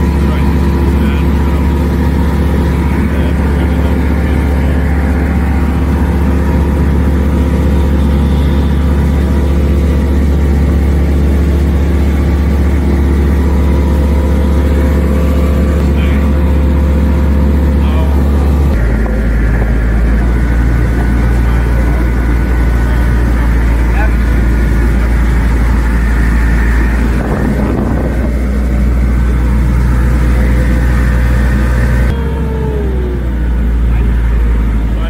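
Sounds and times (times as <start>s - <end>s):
aircraft engine and propeller droning: 0.0s - 35.0s.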